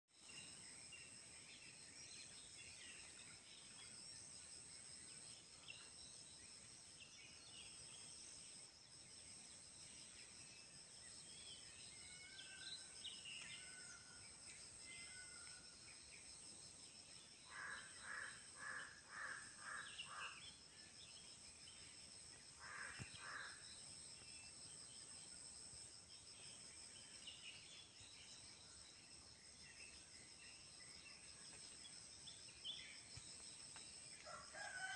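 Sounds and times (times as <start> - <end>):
insect drone: 0.2 - 34.9.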